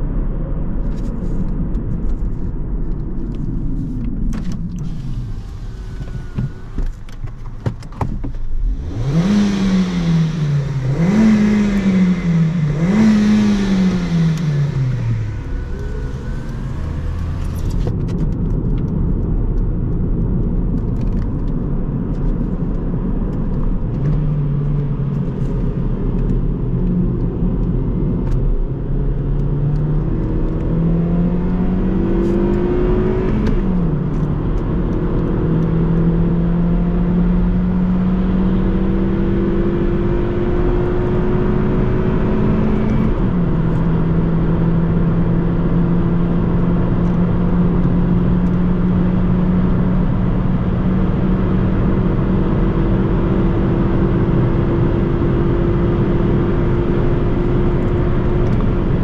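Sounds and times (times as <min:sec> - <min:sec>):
road and wind rumble: 0:00.0 - 0:59.0
car engine accelerating: 0:00.6 - 0:59.0.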